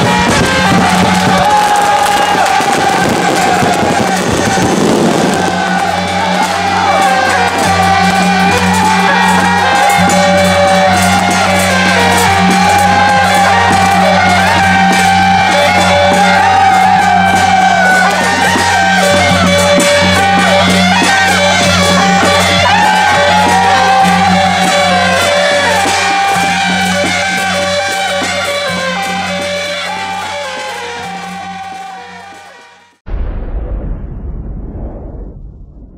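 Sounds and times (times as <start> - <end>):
music with singing and instruments: 0.0 - 32.9.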